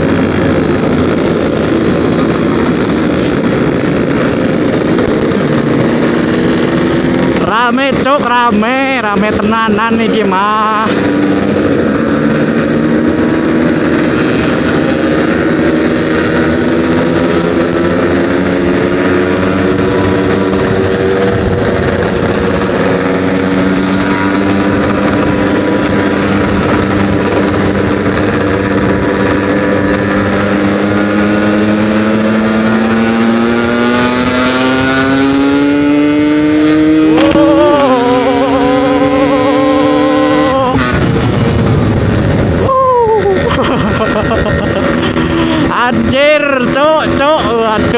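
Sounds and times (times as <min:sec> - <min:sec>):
two-stroke motorcycle engine running: 0:00.0 - 0:47.9.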